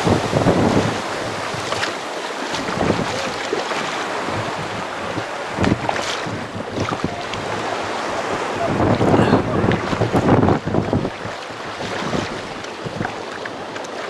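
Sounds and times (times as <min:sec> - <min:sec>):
surf washing on beach: 0:00.0 - 0:14.0
wind buffeting microphone: 0:00.0 - 0:14.0.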